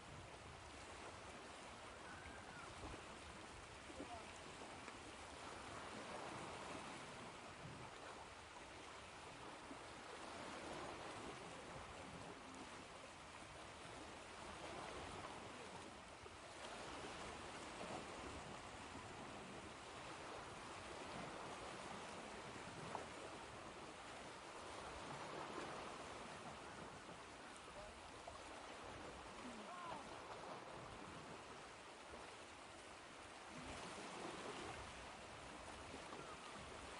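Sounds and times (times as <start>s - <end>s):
faint ocean waves washing ashore: 0.0s - 36.9s.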